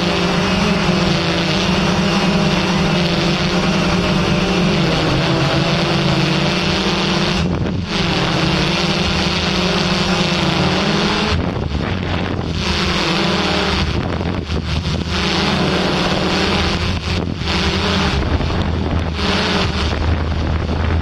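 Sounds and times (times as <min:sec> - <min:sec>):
drone propellers humming: 0:00.0 - 0:21.0
wind noise: 0:00.0 - 0:21.0.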